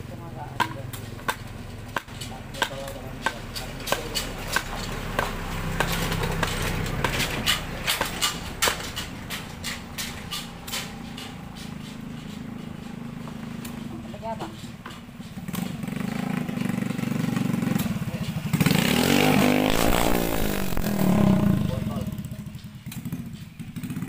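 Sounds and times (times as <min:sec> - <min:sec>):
sharp knocks and rattles: 0:00.0 - 0:24.0
small motorcycle engine running: 0:00.0 - 0:24.0.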